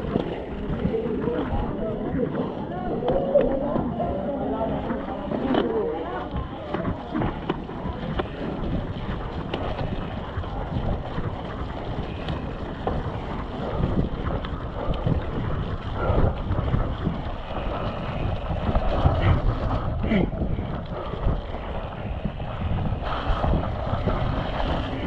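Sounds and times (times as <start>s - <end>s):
bike tyres rolling through mud: 0.0s - 25.0s
wind on microphone: 0.0s - 25.0s.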